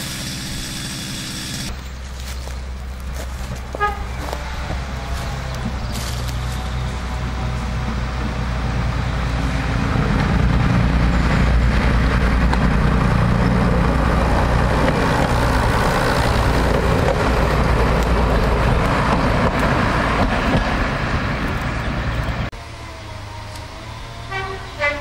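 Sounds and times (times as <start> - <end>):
diesel engine droning: 0.0 - 25.0
train wheels on track: 0.0 - 25.0.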